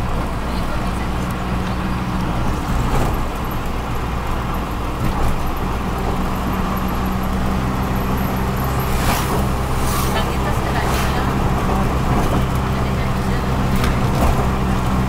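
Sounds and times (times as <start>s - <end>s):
autorickshaw engine running: 0.0s - 15.0s
road noise: 0.0s - 15.0s.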